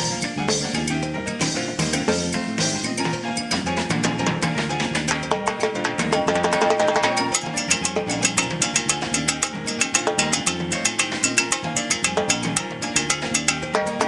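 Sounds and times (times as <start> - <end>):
live band playing dance music: 0.0 - 14.0.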